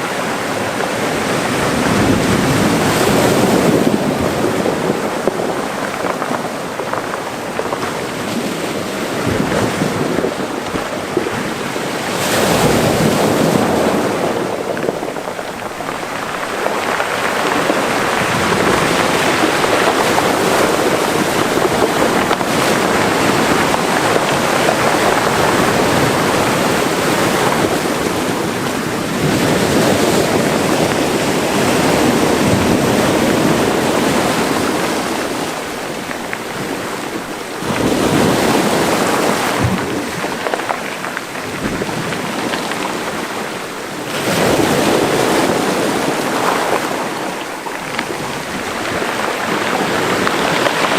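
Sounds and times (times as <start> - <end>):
sea waves washing into cove: 0.0 - 50.9.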